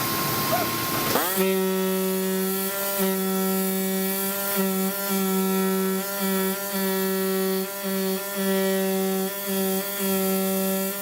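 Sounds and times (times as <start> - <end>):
oscillating knife cutting rubber: 0.5 - 11.0.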